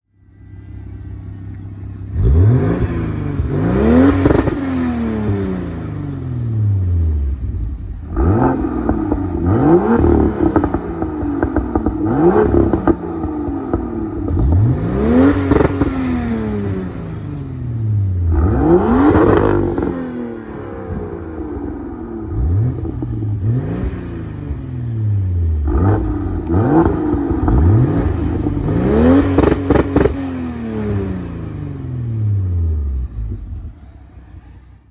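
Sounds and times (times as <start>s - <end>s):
car engine revving: 1.5s - 34.9s.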